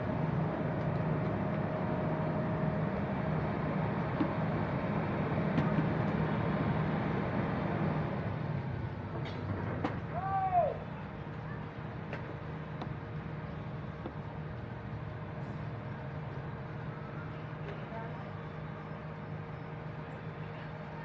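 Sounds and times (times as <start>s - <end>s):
excavator engine running: 0.0s - 10.2s, 10.8s - 21.0s.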